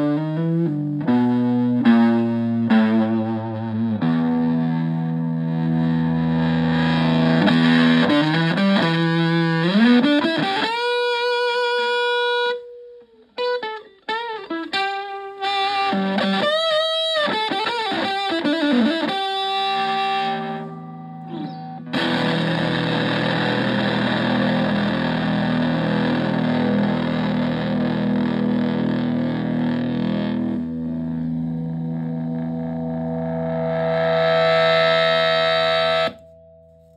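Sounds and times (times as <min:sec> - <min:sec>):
fuzz electric guitar lead notes: 0:00.0 - 0:36.9
fuzzy guitar chord ringing: 0:00.0 - 0:36.9.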